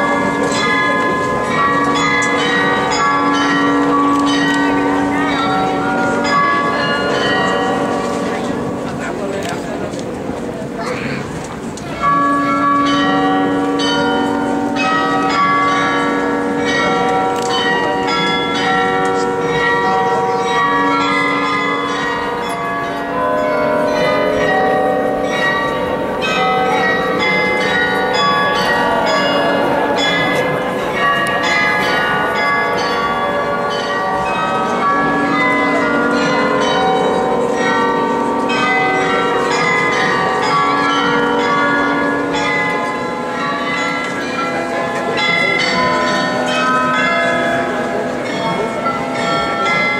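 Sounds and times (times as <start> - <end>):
church bells pealing: 0.0 - 49.9.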